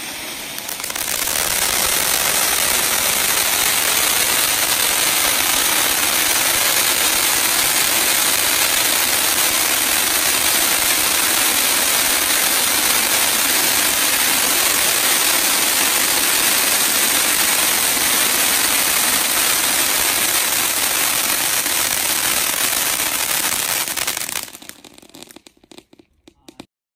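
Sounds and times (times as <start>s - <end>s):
firework fountain hissing: 0.0s - 26.7s.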